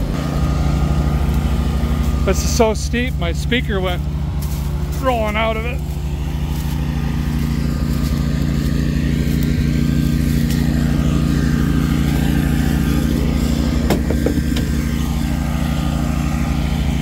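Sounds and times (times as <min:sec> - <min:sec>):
engines running: 0:00.0 - 0:17.0.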